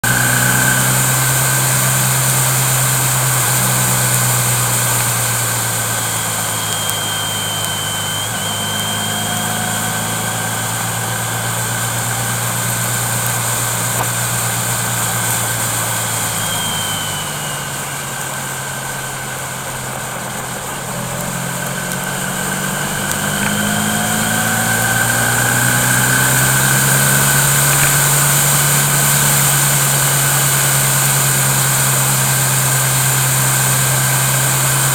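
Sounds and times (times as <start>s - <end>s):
road noise: 0.0s - 34.9s
vehicle engine running: 0.0s - 34.9s.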